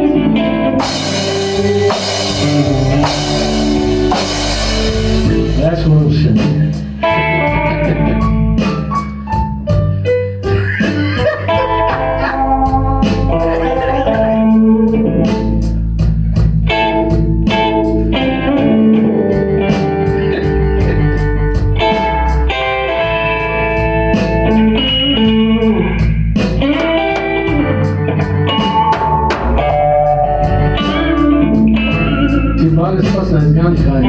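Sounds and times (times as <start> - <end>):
bass guitar: 0.0 - 34.0
electric guitar with bent notes: 0.0 - 34.0
drums and cymbals: 0.6 - 9.9, 12.1 - 22.4, 23.6 - 34.0.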